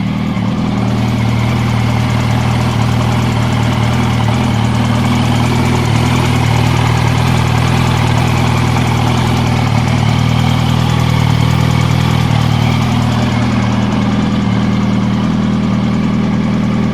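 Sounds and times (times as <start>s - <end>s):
motorcycle engine idling: 0.0s - 16.9s
rapid engine ticking: 0.0s - 16.9s.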